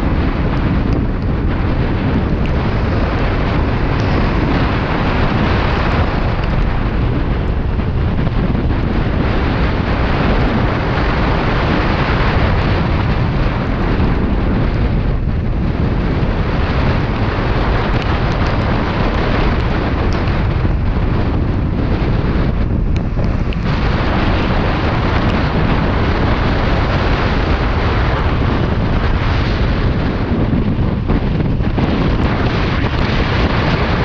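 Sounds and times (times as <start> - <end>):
loud wind rush over microphone: 0.0 - 34.0.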